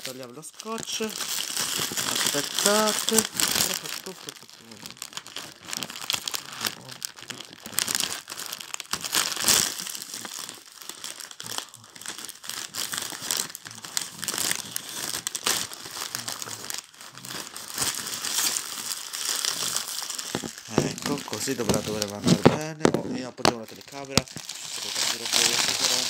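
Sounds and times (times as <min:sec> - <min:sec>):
packaging crinkling: 0:00.0 - 0:26.0.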